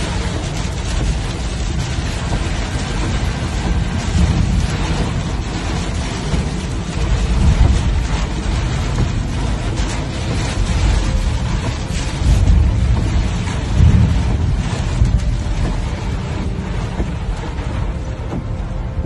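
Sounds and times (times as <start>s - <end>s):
flood torrent rushing: 0.0s - 19.0s.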